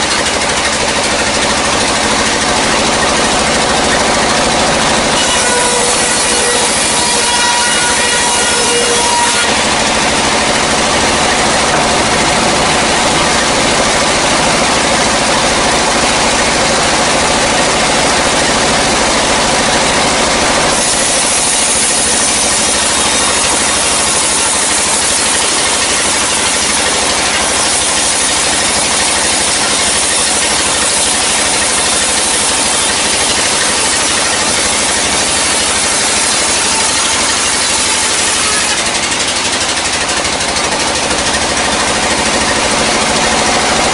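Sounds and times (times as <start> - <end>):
band saw cutting log: 0.0 - 43.9.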